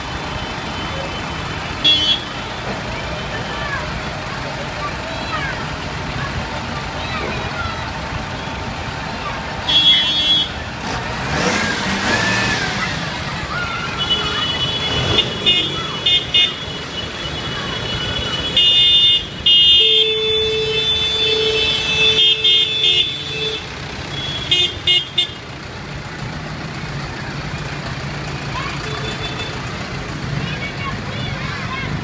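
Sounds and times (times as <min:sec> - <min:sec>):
tractor engines running: 0:00.0 - 0:32.0.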